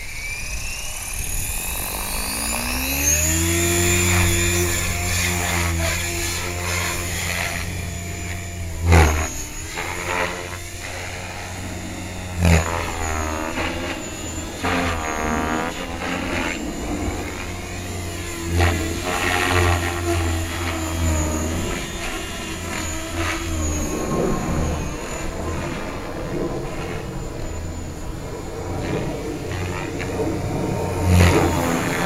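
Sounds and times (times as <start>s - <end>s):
low hum: 0.0s - 32.0s
rc helicopter motor and rotor whine: 0.0s - 32.0s.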